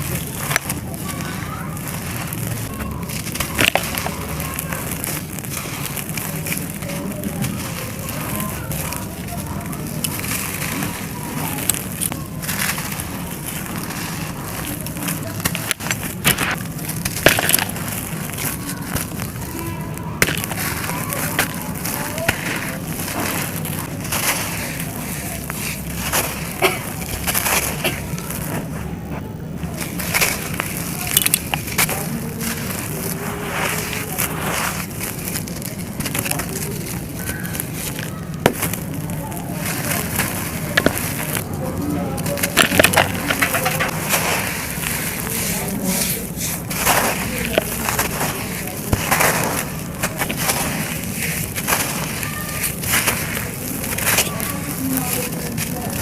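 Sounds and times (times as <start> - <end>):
dry clay crushing and crackling: 0.0 - 56.0.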